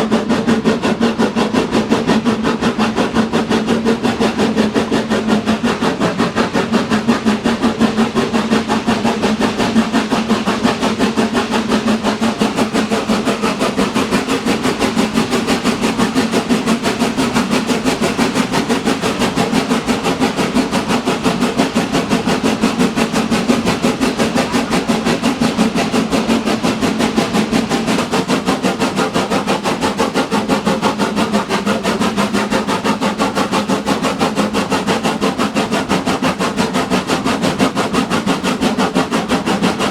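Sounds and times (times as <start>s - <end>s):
train running: 0.0s - 39.9s.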